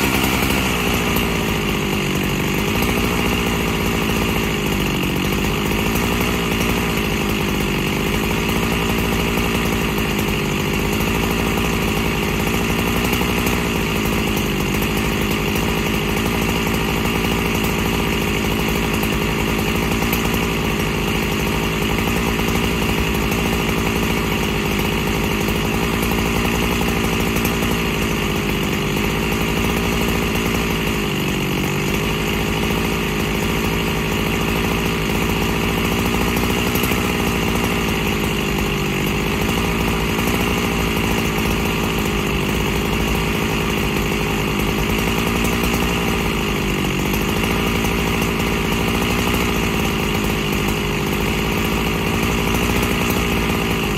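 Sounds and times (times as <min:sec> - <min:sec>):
chainsaw idling: 0:00.0 - 0:53.9.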